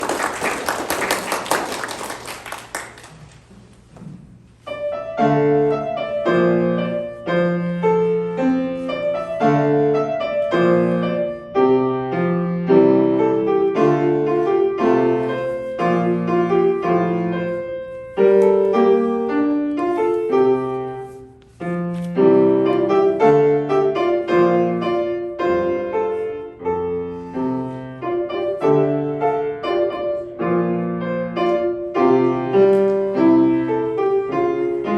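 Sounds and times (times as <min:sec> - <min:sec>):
solo piano piece: 0:04.1 - 0:34.9.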